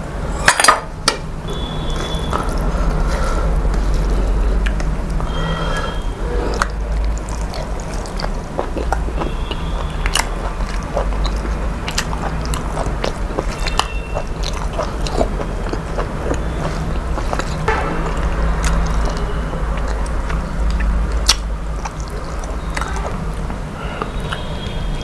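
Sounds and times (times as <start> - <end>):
steady low hum: 0.0 - 25.0
crunchy bites and chewing: 1.8 - 24.7.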